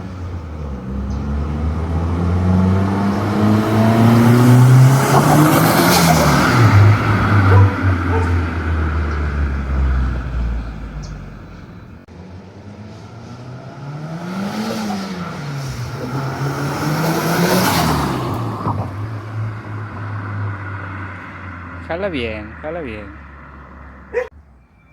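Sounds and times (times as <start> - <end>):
turbocharged engine revving: 0.0 - 24.3.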